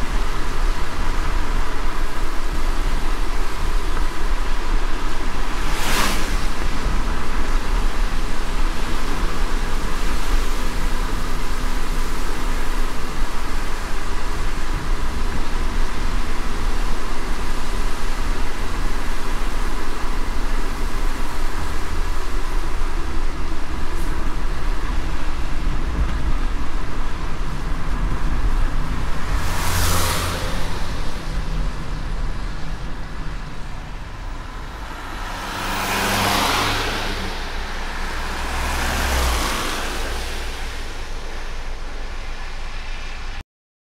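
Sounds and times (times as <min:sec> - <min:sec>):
low traffic rumble: 0:00.0 - 0:43.4
steady rain: 0:00.0 - 0:43.4
tyres hissing on wet road: 0:00.0 - 0:43.4.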